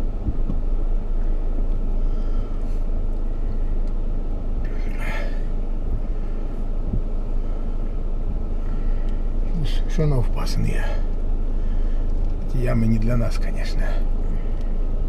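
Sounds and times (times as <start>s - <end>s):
motorhome engine rumble: 0.0s - 15.0s.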